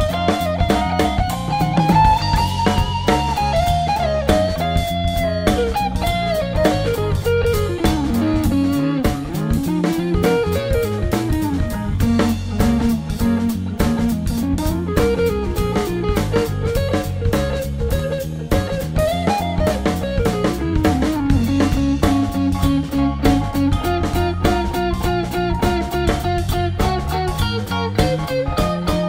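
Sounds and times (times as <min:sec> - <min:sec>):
bass guitar: 0:00.0 - 0:29.0
drum kit: 0:00.0 - 0:29.0
electric guitar lead line: 0:00.0 - 0:29.0.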